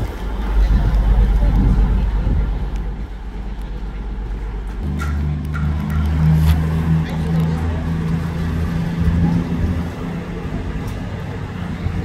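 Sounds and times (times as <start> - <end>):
deep engine hum: 0.0 - 12.0
train low rumble: 0.0 - 12.0.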